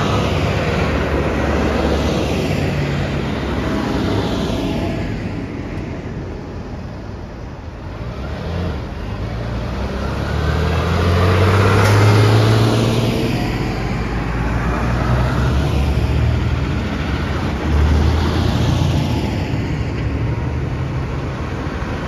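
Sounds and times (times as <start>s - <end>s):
tractor diesel engines droning: 0.0s - 22.0s.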